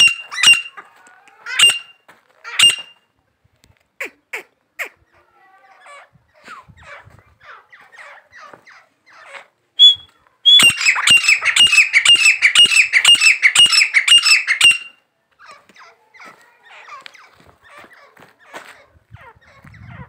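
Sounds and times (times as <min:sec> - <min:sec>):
bird calling: 0:00.0 - 0:03.0, 0:05.8 - 0:20.0.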